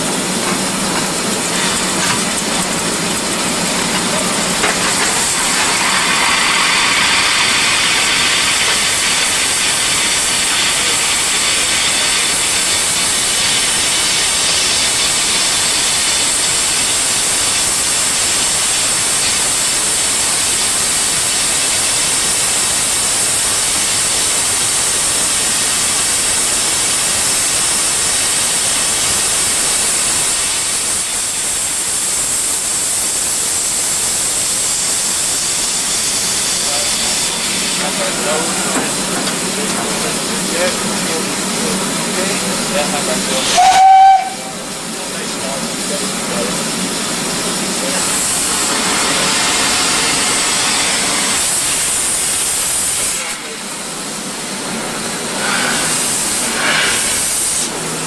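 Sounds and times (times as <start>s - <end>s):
steam locomotive blowing off steam: 0.0s - 58.0s.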